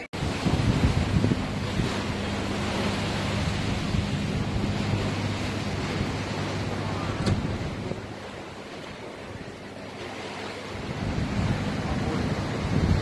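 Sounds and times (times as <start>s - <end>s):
sea surf washing against breakwater: 0.0s - 13.0s
wind rumbling on microphone: 0.0s - 13.0s.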